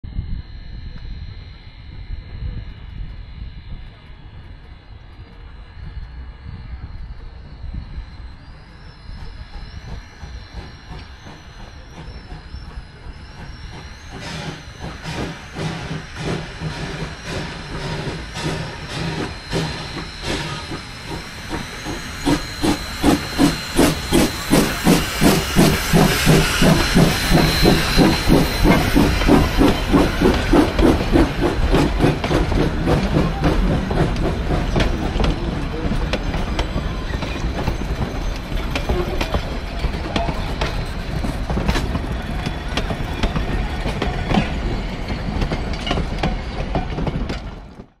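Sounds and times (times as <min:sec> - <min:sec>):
steam locomotive chuffing: 0:00.6 - 0:48.0
train wheels rumbling and clicking: 0:02.6 - 0:48.0.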